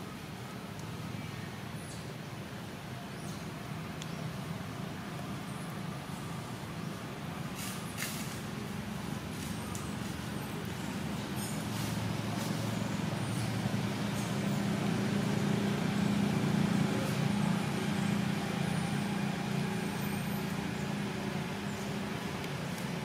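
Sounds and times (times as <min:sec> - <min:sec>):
vehicle engine drone: 0:02.6 - 0:23.0.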